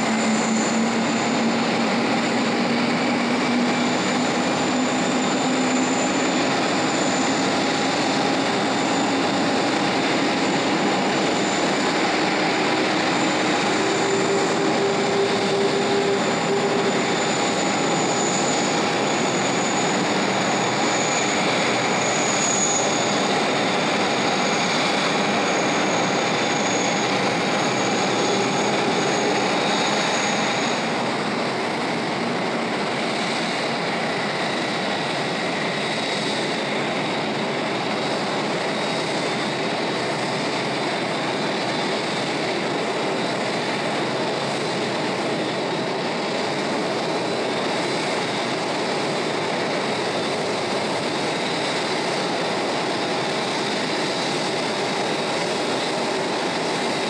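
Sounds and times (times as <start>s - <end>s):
high jet engine whine: 0.0s - 57.0s
jet engines running: 0.0s - 57.0s.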